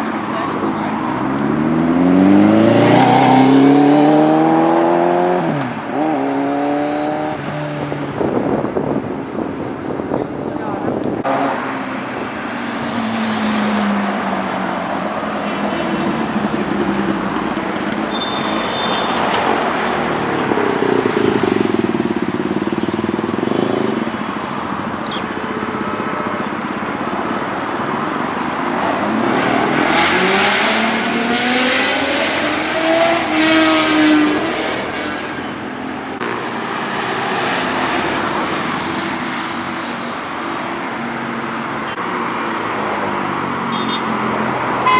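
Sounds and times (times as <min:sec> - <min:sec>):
motorcycle engines passing and revving: 0:00.0 - 0:44.9
traffic noise: 0:00.0 - 0:44.9.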